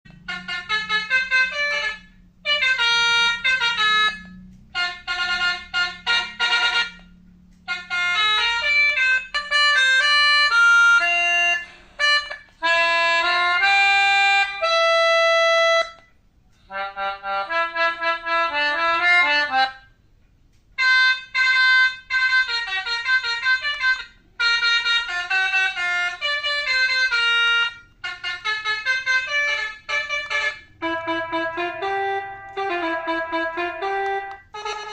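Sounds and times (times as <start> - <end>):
multi-tone bus horn melodies: 0.1 - 20.0, 20.8 - 34.9.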